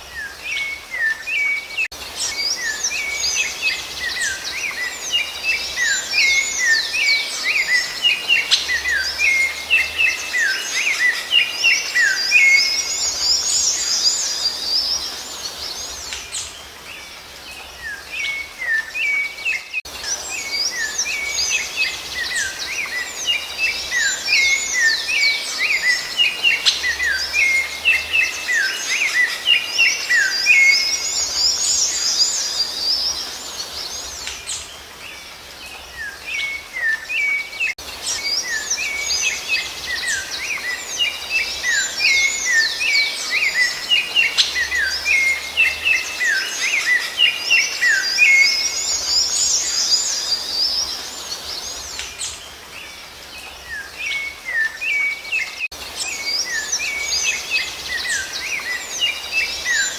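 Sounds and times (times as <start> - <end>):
thrush birdsong: 0.0 - 59.9.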